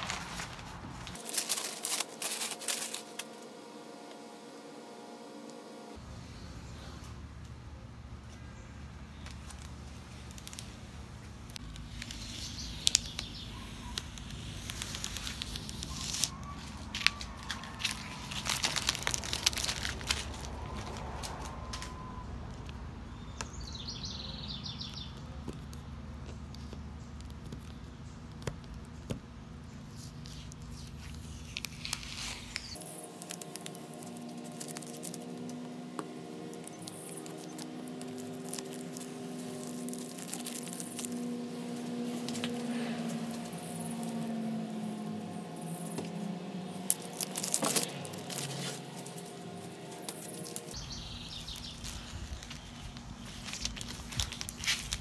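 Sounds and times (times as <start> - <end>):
tape peeling and crackling: 0.0 - 4.2, 9.1 - 55.0.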